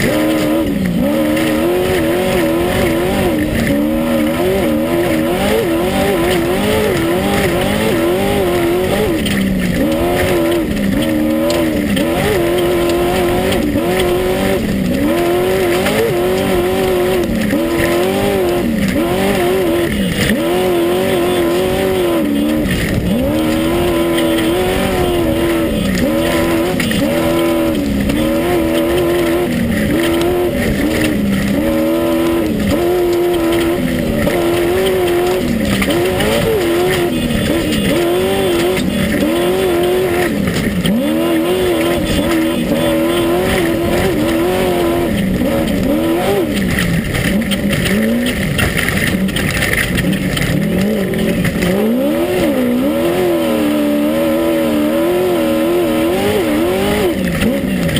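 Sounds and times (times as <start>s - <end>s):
loud rush of driving noise: 0.0s - 57.9s
race buggy engine revving: 0.0s - 57.9s.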